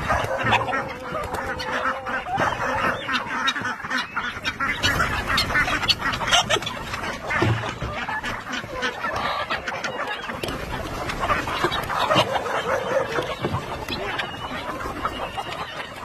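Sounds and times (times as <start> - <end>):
chickens clucking and squawking: 0.0 - 16.0.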